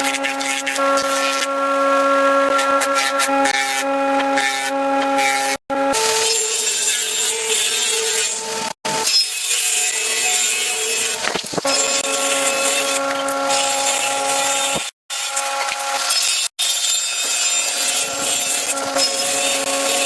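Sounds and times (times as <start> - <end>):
machine sawing wood: 0.0 - 20.0.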